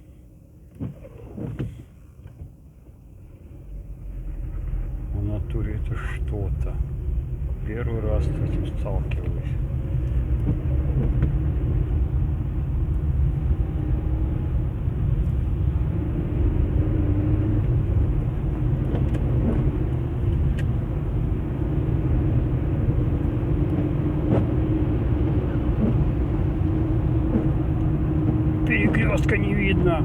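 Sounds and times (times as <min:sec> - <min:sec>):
car engine and tyres rumbling: 0:00.0 - 0:30.0.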